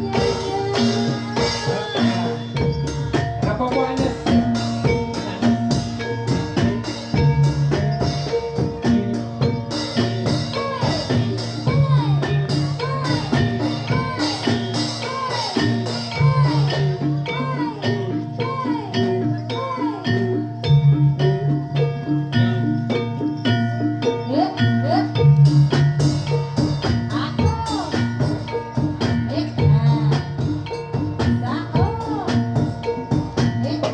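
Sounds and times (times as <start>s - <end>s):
gamelan ensemble playing: 0.0s - 33.9s.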